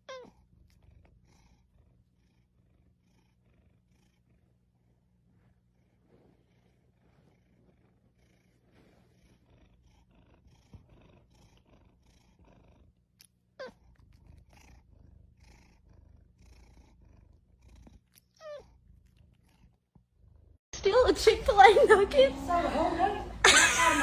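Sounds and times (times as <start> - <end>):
cat purring: 0.0 - 20.6.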